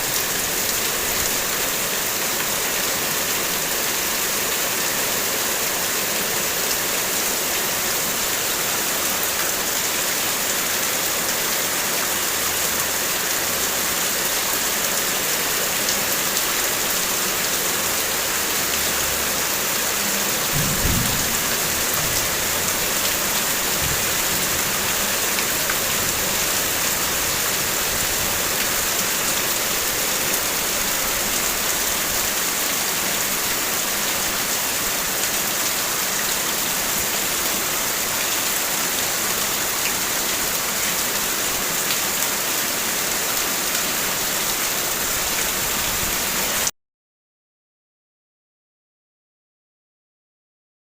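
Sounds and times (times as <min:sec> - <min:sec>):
heavy rain on a car: 0:00.1 - 0:46.7.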